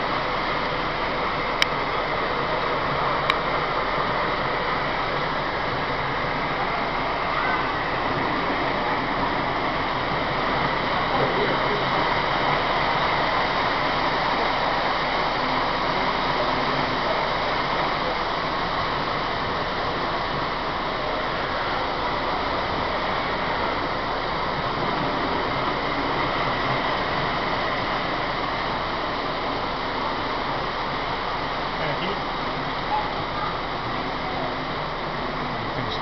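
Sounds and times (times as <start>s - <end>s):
model trains rumbling whir: 0.0s - 36.0s.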